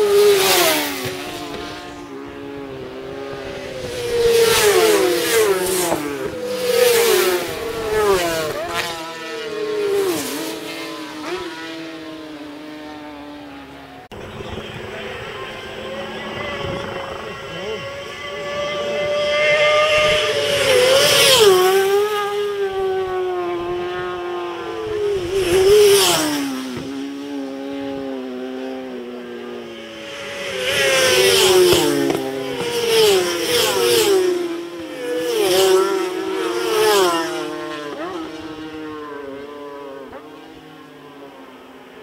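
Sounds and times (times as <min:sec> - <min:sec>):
racing motorcycles passing at speed: 0:00.0 - 0:42.0.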